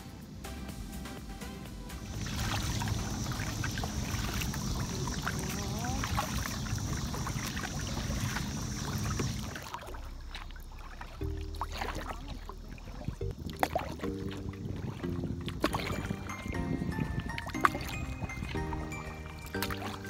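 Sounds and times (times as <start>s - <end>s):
low rumble: 0.0s - 20.0s
kayak paddle strokes splashing: 2.0s - 20.0s
water dripping: 2.0s - 20.0s.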